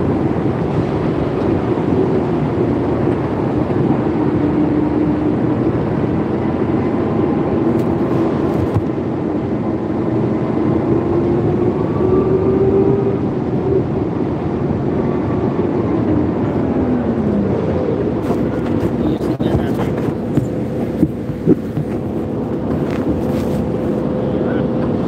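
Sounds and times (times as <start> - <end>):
forklift driving with whine: 0.0 - 25.0.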